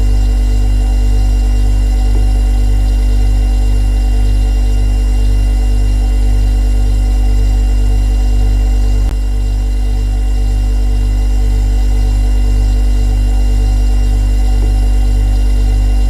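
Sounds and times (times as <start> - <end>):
faint steady whine: 0.0 - 16.0
refrigerator compressor humming: 0.0 - 16.0.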